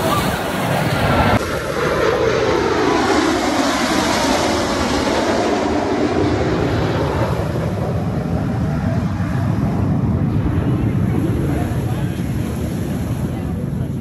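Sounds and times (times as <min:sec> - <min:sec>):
jets flying low overhead: 0:00.0 - 0:14.0.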